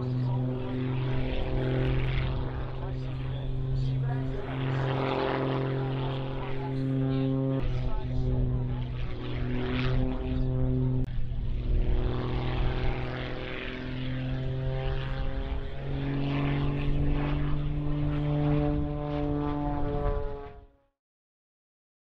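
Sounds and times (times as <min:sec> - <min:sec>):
propeller airplane engine droning: 0:00.0 - 0:20.9.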